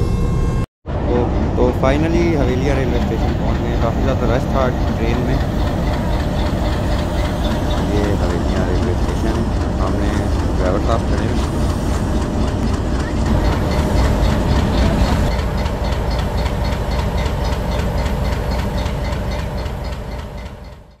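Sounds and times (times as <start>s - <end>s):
diesel engine knocking rumble: 1.1s - 21.0s.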